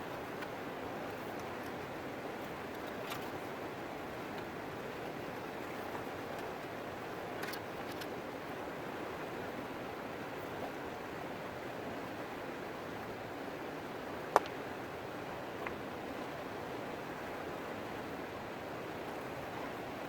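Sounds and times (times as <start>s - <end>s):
flowing river water: 0.0s - 20.0s.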